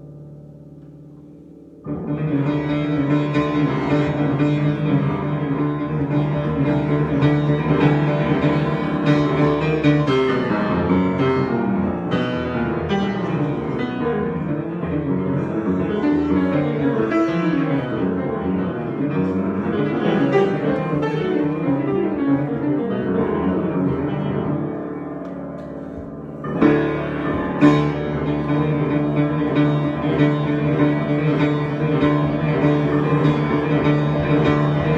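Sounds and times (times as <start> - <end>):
piano-like notes: 0.0 - 34.9.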